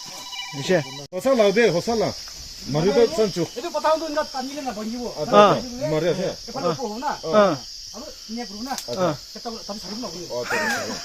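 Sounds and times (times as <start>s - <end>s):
night insects chorus: 0.0s - 11.0s
people talking and calling: 0.0s - 11.0s.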